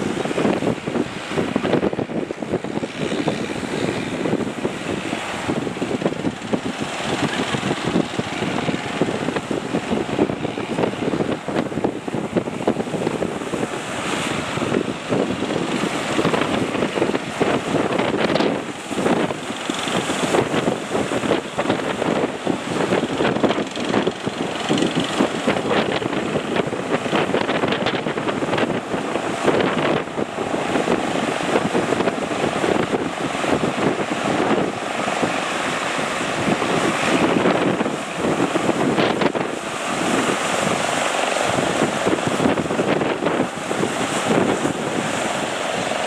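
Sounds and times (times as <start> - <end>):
breaking surf: 0.0 - 46.0
strong wind buffeting microphone: 0.0 - 46.0.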